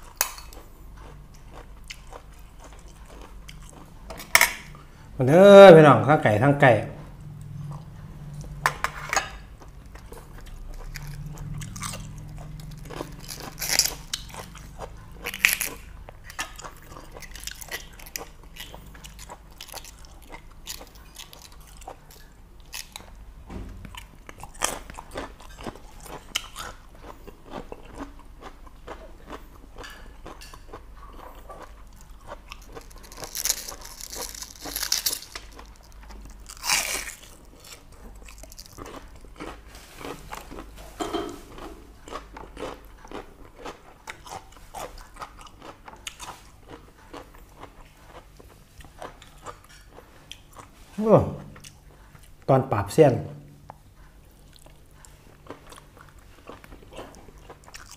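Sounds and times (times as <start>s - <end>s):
person chewing and crunching: 0.0s - 5.2s, 7.2s - 52.5s, 53.5s - 57.9s.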